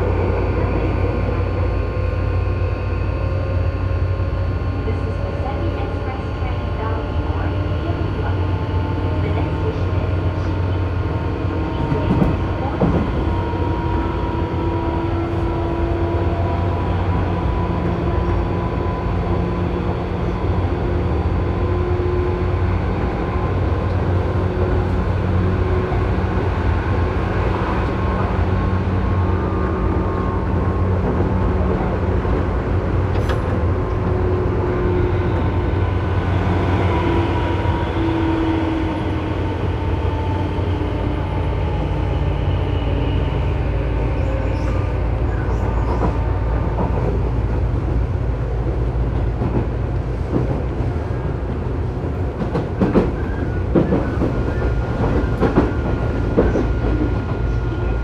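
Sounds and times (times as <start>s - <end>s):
train motor and rail noise: 0.0s - 58.0s.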